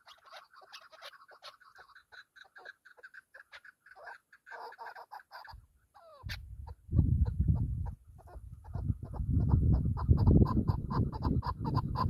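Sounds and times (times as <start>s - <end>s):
partridge clucking calls: 0.0s - 12.0s.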